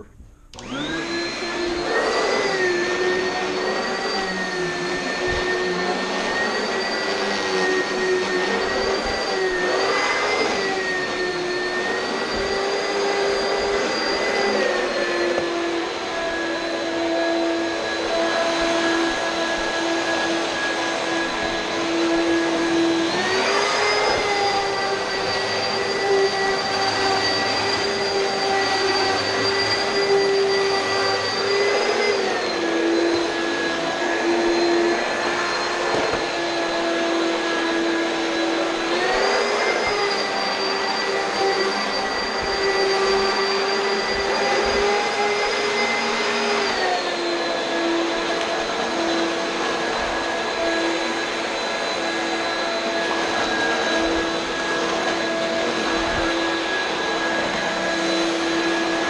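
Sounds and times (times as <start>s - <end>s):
upright vacuum cleaner running: 0.0s - 59.0s.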